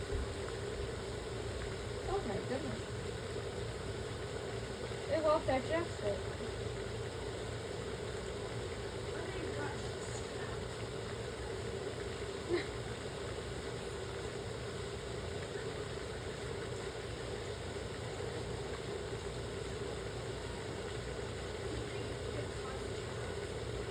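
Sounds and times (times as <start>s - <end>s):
steady mechanical hum: 0.0s - 23.9s.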